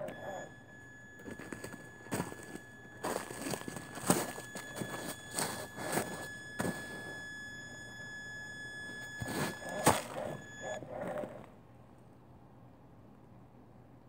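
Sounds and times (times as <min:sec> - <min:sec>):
electric motor whine: 0:00.0 - 0:11.5.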